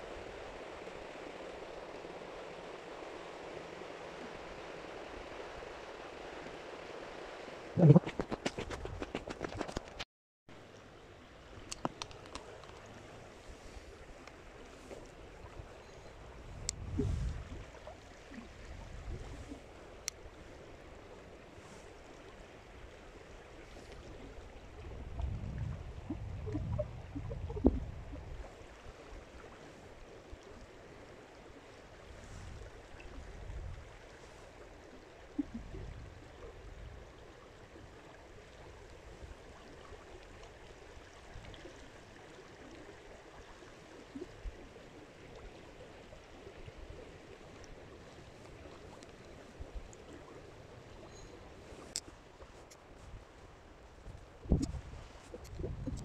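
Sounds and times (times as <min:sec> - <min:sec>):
steady outdoor hiss: 0:00.0 - 0:08.6, 0:10.5 - 0:56.0.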